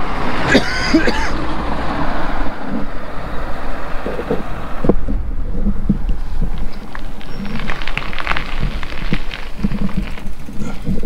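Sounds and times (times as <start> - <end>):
wind buffeting microphone: 1.3 - 11.0.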